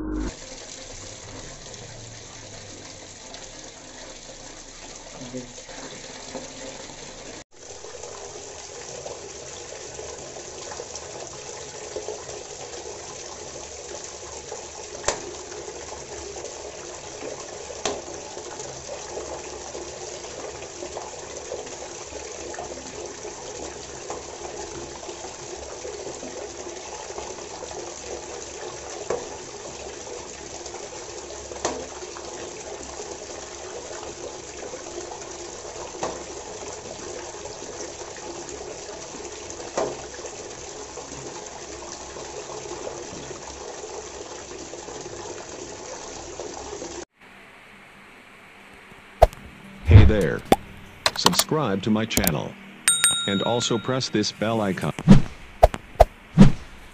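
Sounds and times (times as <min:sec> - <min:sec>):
tap water running into basin: 0:00.4 - 0:47.1.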